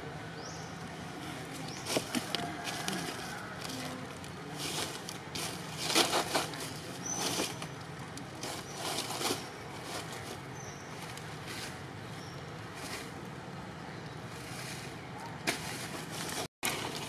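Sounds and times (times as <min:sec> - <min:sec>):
monkeys rustling on dry leaves: 0:01.0 - 0:13.3, 0:14.2 - 0:17.0.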